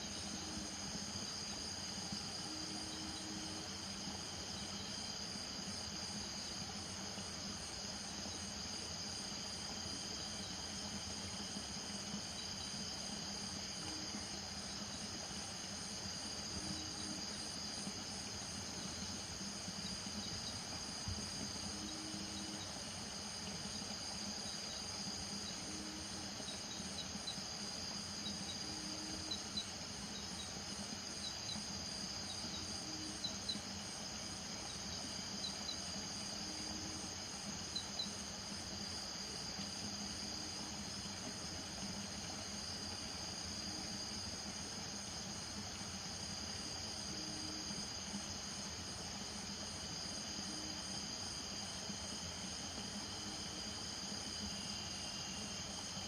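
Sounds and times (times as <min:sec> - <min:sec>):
crickets and insects trilling: 0:00.0 - 0:56.0.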